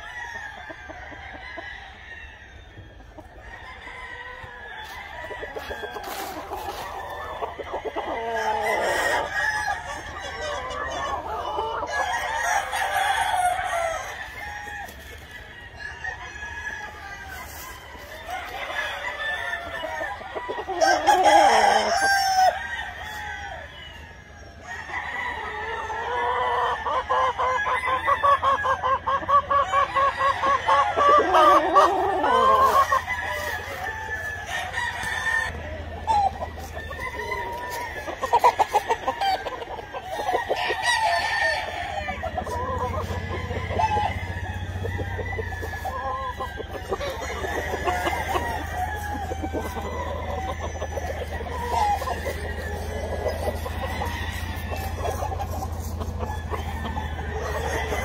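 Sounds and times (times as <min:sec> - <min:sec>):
chickens clucking: 0:00.0 - 0:58.0
roosters crowing: 0:00.0 - 0:58.0.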